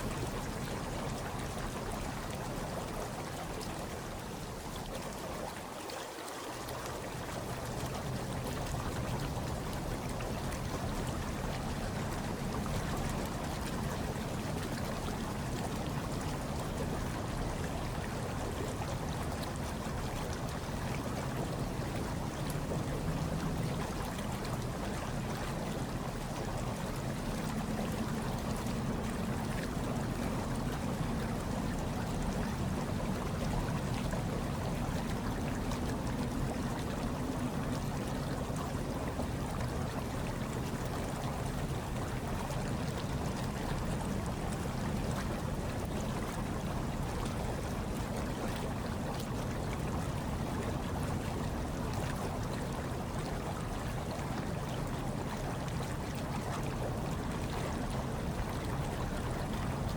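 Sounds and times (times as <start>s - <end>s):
hot tub water bubbling: 0.0s - 59.9s.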